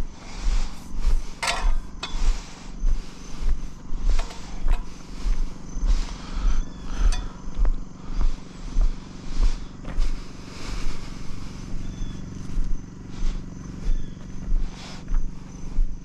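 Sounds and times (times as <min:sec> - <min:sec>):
engine running with low throb: 0:00.0 - 0:16.0.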